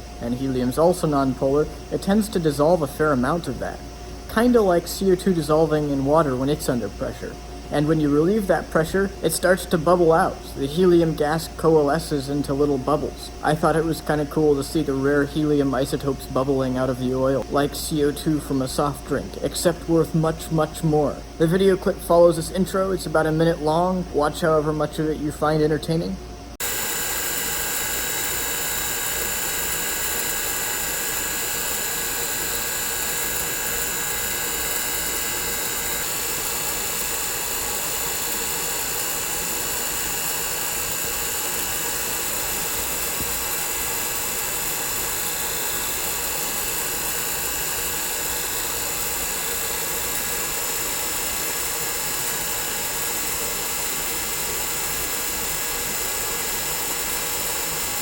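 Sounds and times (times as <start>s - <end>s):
vacuum pump drone and hiss: 0.0s - 58.0s.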